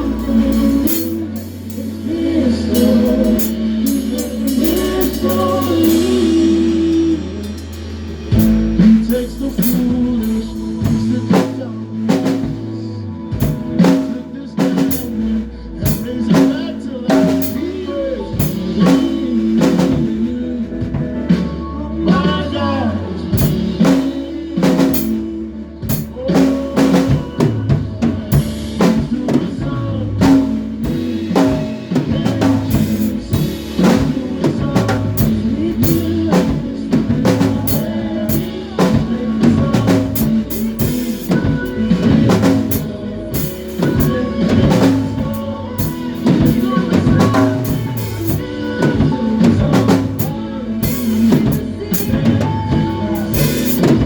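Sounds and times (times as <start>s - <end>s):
drum kit beat: 0.0s - 54.0s
live band playing worship music: 0.0s - 54.0s.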